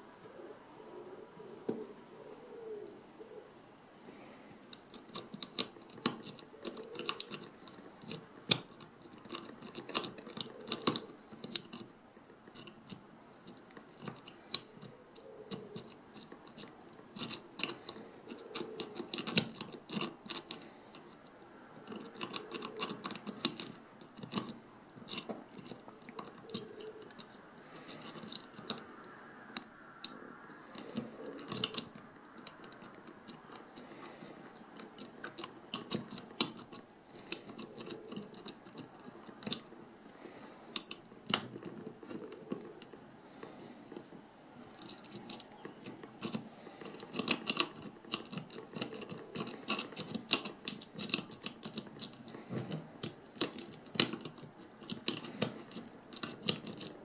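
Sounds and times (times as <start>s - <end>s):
soft handling rustle: 4.0s - 57.0s
lock pick clicking on pins: 4.6s - 28.9s, 29.6s - 39.7s, 40.7s - 43.6s, 44.6s - 57.0s.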